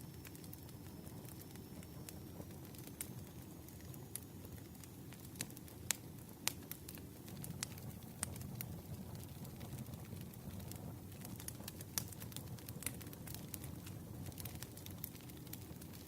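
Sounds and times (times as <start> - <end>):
burning wood crackling and popping: 0.0 - 16.0
campfire flames rumbling: 0.0 - 16.0.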